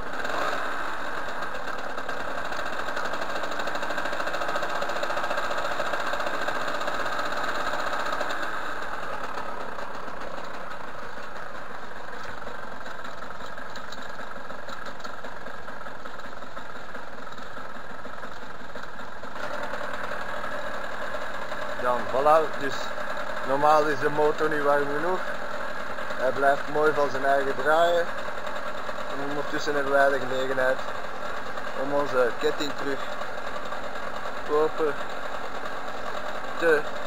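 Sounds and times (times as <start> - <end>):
moped engine idling: 0.0 - 37.0.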